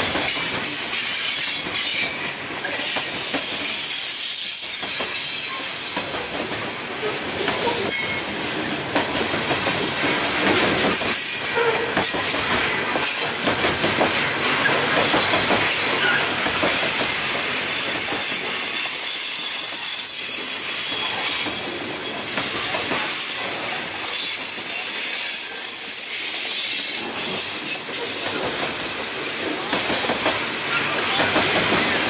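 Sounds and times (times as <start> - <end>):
train wheels clicking on track: 0.0 - 32.0.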